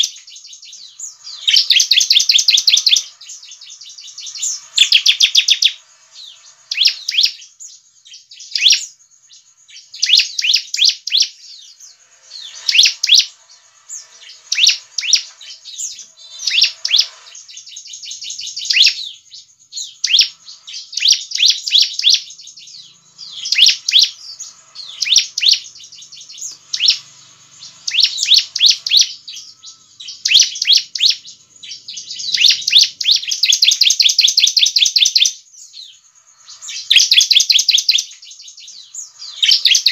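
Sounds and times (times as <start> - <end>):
bird chattering high notes: 0.8 - 7.5, 10.0 - 19.2, 19.8 - 35.4, 39.0 - 39.9.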